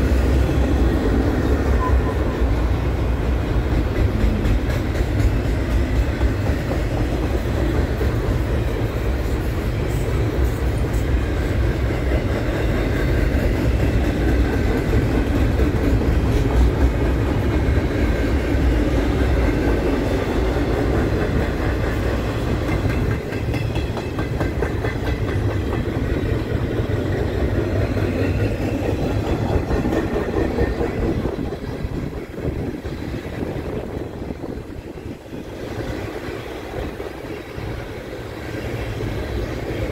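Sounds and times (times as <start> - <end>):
freight train rumbling past: 0.0 - 39.9
train wheels clattering on rails: 0.0 - 39.9.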